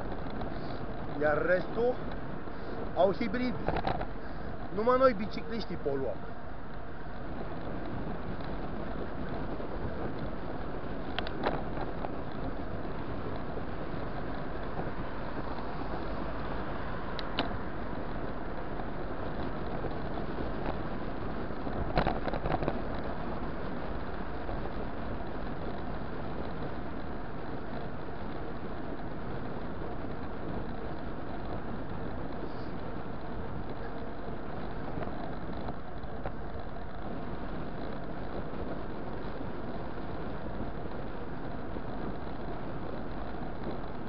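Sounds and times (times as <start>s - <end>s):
bicycle clicks and rattles: 0.0s - 44.0s
wind and road noise: 0.0s - 44.0s.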